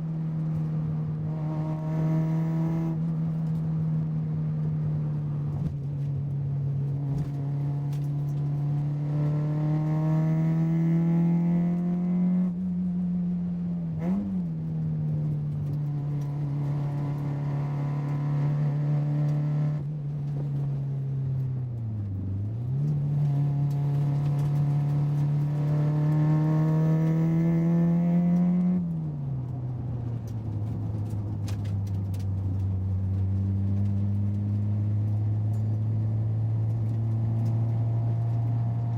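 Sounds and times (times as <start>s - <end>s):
car drivetrain hum: 0.0s - 38.9s.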